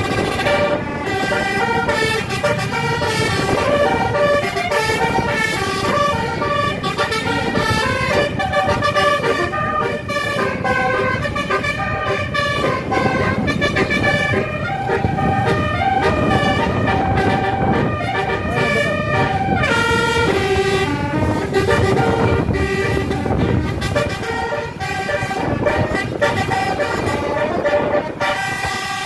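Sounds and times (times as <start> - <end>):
bus engine rumble: 0.0 - 29.0
multi-tone bus horn melody: 0.0 - 29.0.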